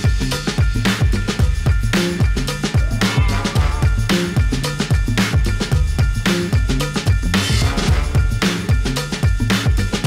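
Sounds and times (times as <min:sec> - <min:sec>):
music with fast drum beat: 0:00.0 - 0:10.0.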